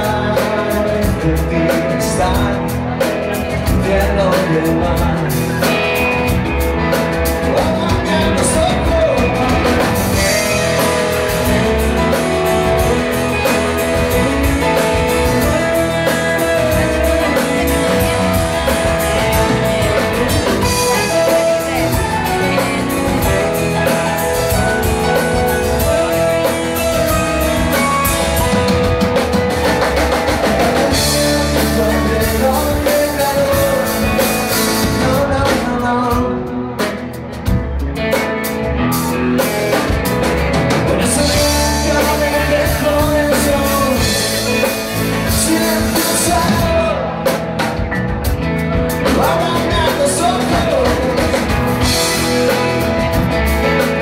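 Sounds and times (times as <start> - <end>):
drum kit: 0.0 - 54.0
electric guitars: 0.0 - 54.0
keyboard: 0.0 - 54.0.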